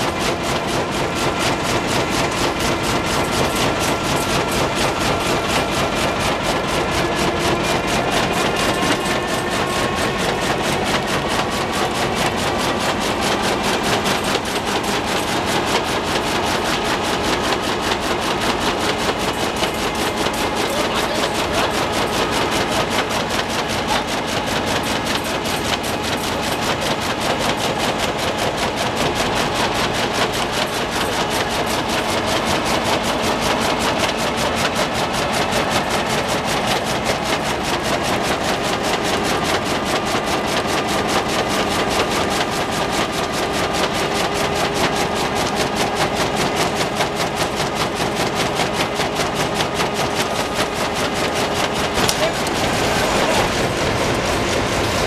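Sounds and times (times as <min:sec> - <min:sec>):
printing machine running: 0:00.0 - 0:55.0
sheets clattering through rollers: 0:00.3 - 0:39.6, 0:41.9 - 0:55.0.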